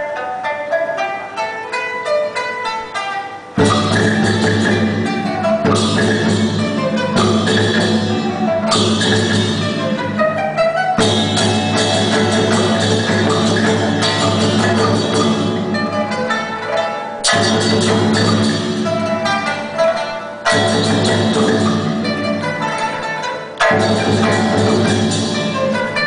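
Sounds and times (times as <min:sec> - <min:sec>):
drums and percussion: 0:00.0 - 0:26.0
plucked strings: 0:00.0 - 0:26.0.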